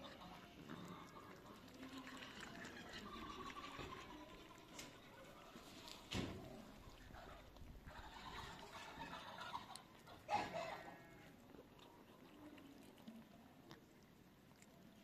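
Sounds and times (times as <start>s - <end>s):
animal sounds: 0.0s - 15.0s.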